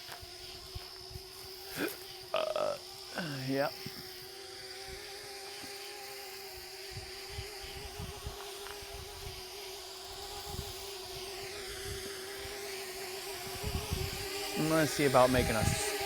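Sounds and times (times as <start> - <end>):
drone propellers buzzing: 0.0 - 16.0
high motor whine: 0.0 - 16.0.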